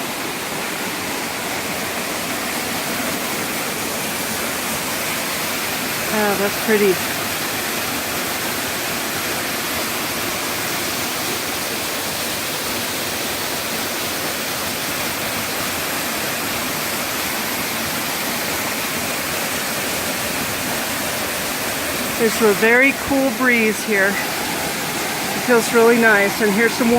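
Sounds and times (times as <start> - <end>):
waterfall splashing: 0.0 - 26.9.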